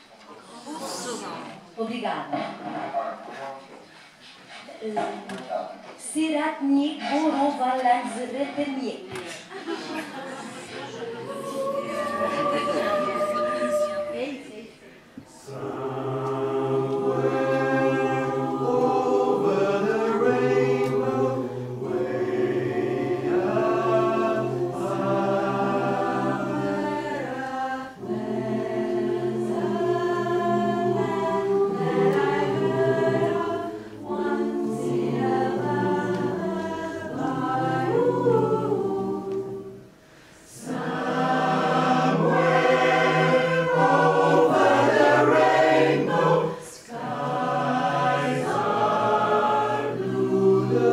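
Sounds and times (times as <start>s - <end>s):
choir singing: 9.6s - 50.9s.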